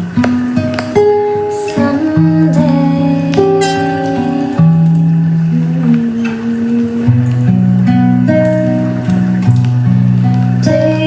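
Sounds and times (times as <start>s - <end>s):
acoustic guitar low notes: 0.0s - 11.0s.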